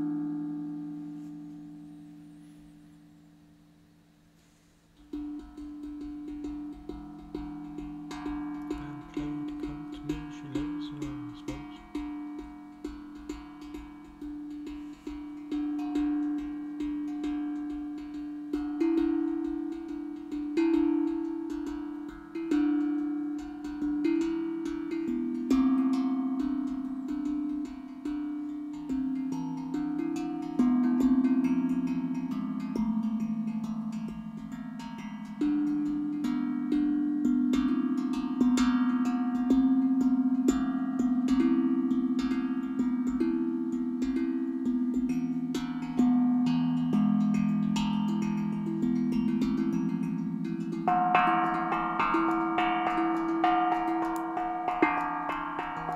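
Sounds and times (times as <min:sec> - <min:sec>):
steel drum melody: 0:00.0 - 0:55.9.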